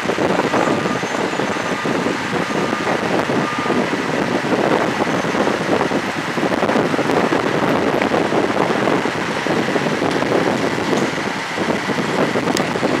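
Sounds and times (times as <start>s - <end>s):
faint steady whine: 0.0s - 13.0s
heavy construction machinery running: 0.0s - 13.0s
wind buffeting microphone: 0.0s - 13.0s.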